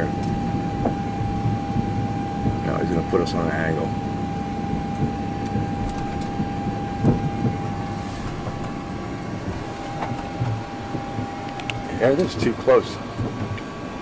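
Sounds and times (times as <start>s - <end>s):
steady rumble with whine: 0.0s - 14.0s.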